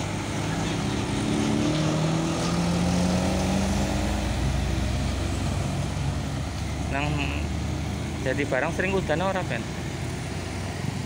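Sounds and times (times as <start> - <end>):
deep engine rumble: 0.0 - 11.0
road traffic passing: 0.0 - 11.0.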